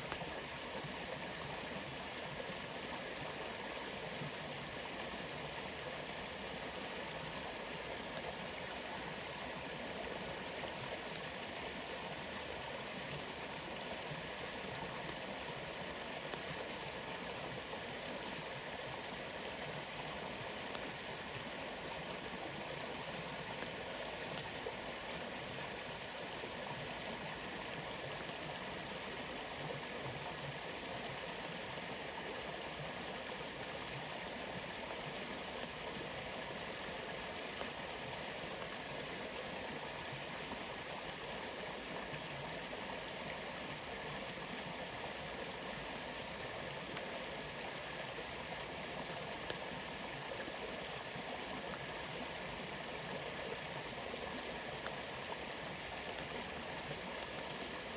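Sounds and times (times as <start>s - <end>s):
waterfall and stream rushing: 0.0s - 57.9s.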